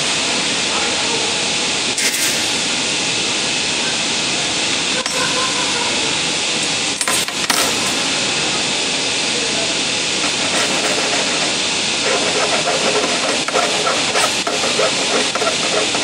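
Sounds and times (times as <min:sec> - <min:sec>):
steady loud air hiss: 0:00.0 - 0:16.0.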